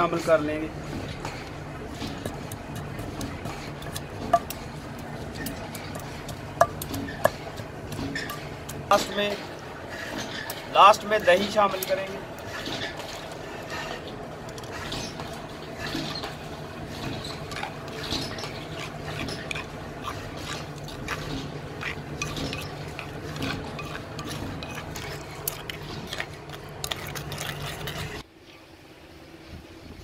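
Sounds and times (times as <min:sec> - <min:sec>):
steady low hum: 0:00.0 - 0:30.0
spoon scraping stone mortar: 0:01.2 - 0:28.2
spoon stirring wet food: 0:01.2 - 0:28.2.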